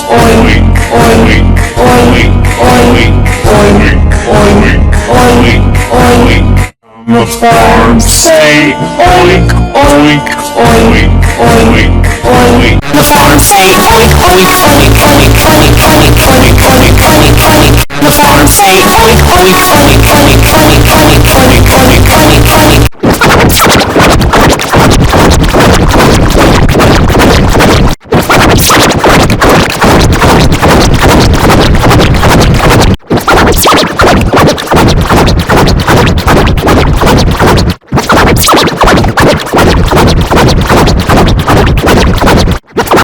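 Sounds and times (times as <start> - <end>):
loud distorted music: 0.0 - 43.0.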